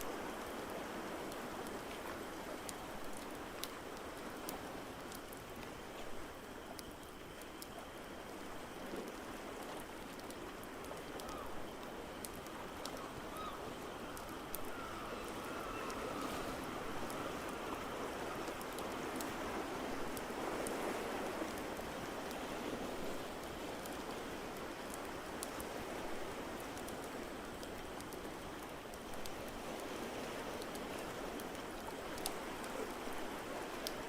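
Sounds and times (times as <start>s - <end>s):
water noise: 0.0s - 34.0s.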